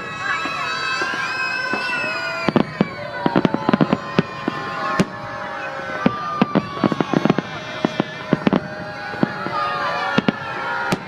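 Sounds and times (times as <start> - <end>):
firework crackling pops and bangs: 0.0 - 11.0
firework whistling tones: 0.0 - 11.0.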